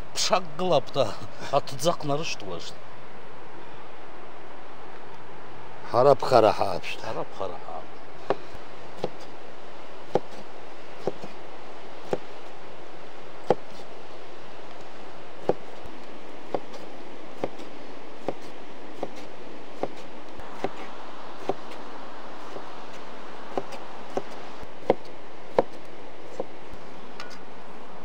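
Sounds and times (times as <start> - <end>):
steady rushing noise: 0.0 - 28.0.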